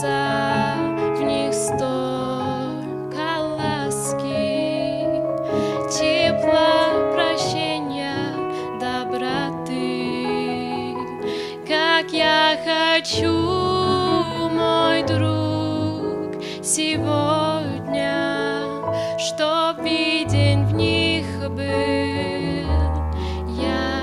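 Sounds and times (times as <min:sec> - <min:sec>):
person singing a hymn: 0:00.0 - 0:24.0
piano accompaniment: 0:00.0 - 0:24.0.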